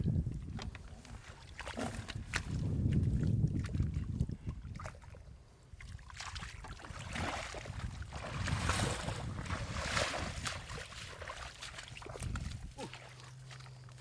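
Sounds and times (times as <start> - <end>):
wind on microphone: 0.0 - 12.8
water sloshing and splashing: 0.0 - 14.0.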